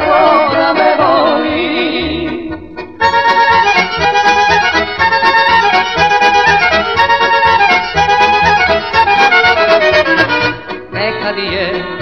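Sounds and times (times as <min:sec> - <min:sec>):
accordion melody: 0:00.0 - 0:12.0.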